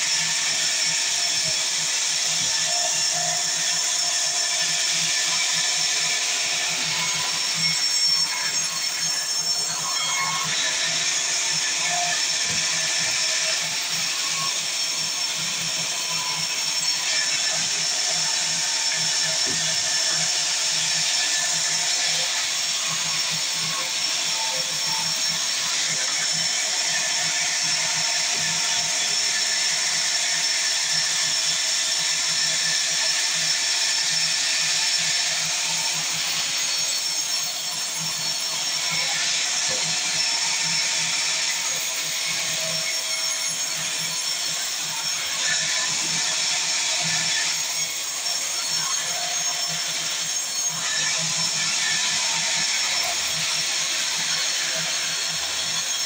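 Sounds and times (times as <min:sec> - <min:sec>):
sawmill saw rasping whir: 0:00.0 - 0:56.0.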